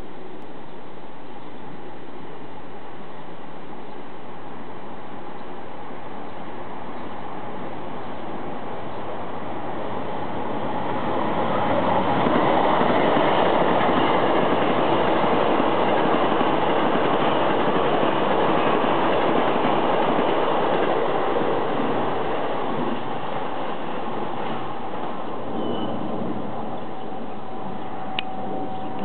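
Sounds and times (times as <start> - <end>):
electric train passing: 1.0 - 29.0.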